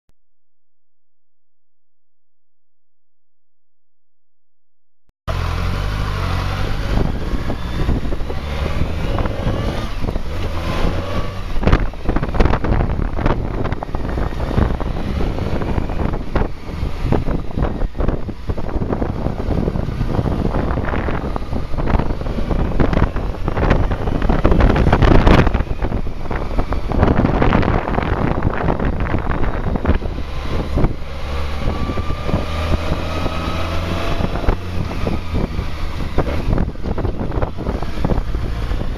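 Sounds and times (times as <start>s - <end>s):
motorcycle engine running: 5.3s - 38.9s
wind buffeting microphone: 5.3s - 38.9s.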